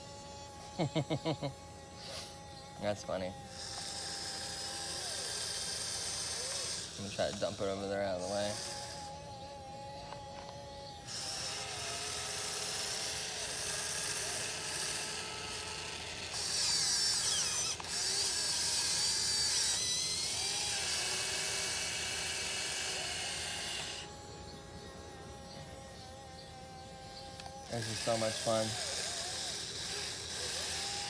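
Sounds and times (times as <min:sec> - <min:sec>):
electric motors whining: 0:00.0 - 0:31.0.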